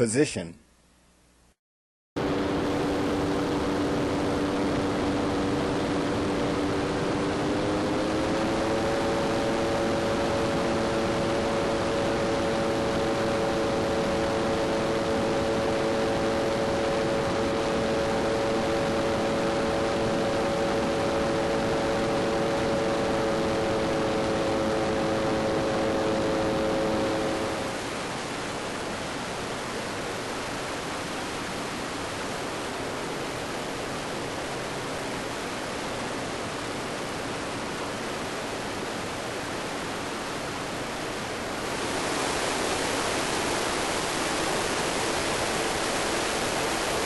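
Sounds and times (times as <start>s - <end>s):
engine and propeller running: 2.2s - 47.0s.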